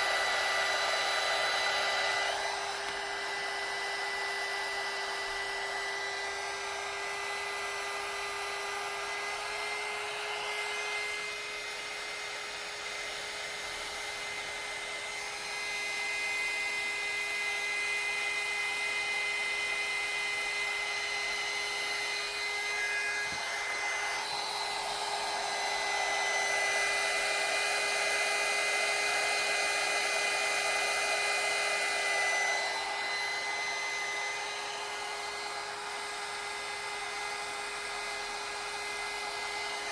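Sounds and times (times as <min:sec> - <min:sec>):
heat gun blowing hot air: 0:00.0 - 0:39.9.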